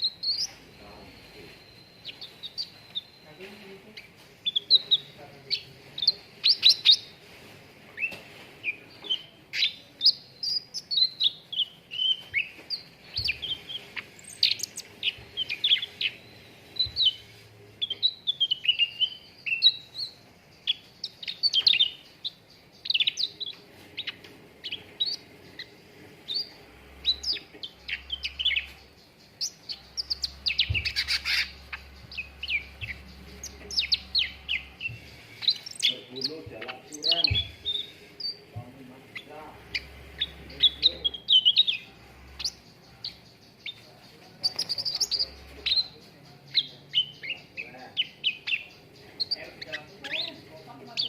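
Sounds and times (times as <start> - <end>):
songbird chirping and twittering: 0.0 - 51.0.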